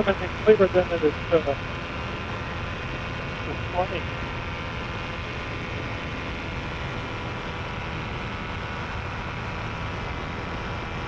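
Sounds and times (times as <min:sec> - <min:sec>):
paramotor engine droning: 0:00.0 - 0:11.0.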